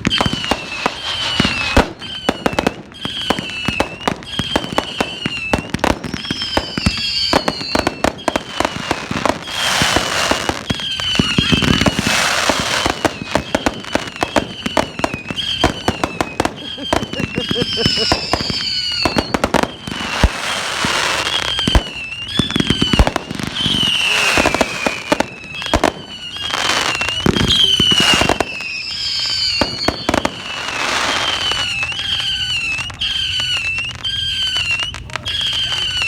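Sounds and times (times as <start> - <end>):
fireworks bangs: 0.0 - 36.0
high wavering whistle: 0.0 - 36.0.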